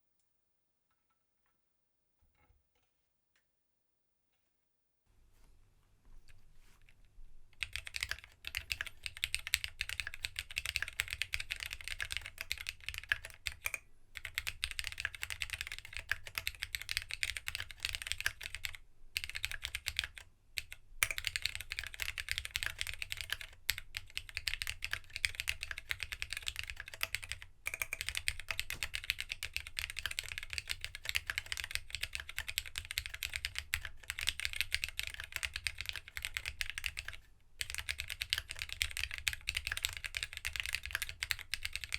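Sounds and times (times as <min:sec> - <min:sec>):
mechanical keyboard typing: 0:07.6 - 0:41.9.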